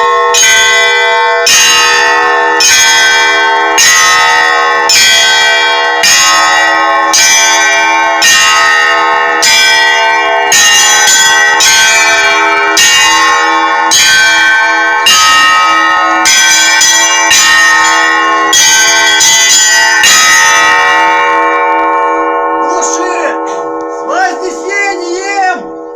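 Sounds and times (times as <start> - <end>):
church bells struck together: 0.0 - 25.9.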